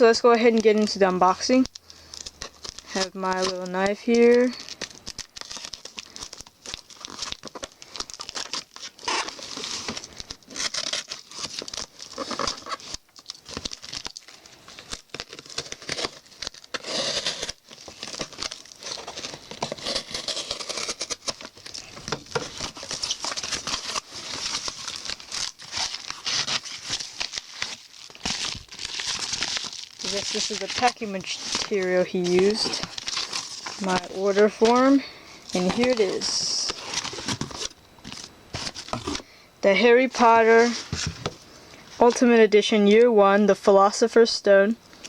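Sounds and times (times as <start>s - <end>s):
packaging crinkling and tearing: 0.0s - 39.4s
knife cutting package: 1.6s - 39.2s.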